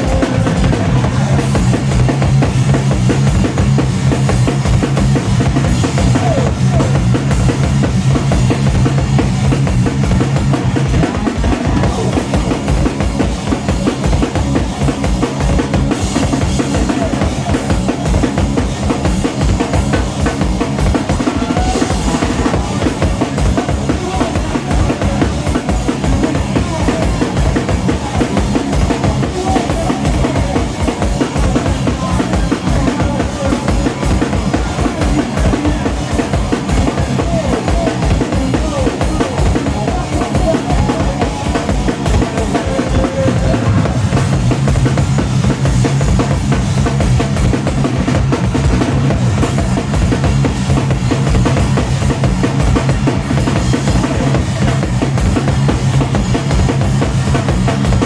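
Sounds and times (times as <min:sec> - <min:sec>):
distorted bass guitar: 0:00.0 - 0:58.0
fast rock drumming: 0:00.0 - 0:58.0.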